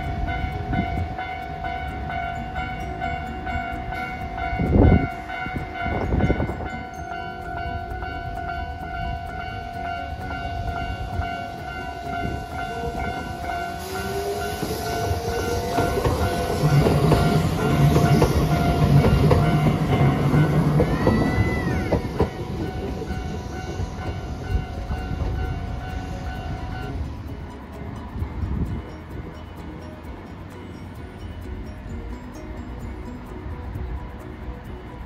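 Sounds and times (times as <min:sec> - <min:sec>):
high wheel squeal: 0:00.0 - 0:35.0
level-crossing warning bell: 0:00.0 - 0:35.0
tram passing with whine: 0:00.0 - 0:35.0
wheels rumbling on rails: 0:00.0 - 0:35.0.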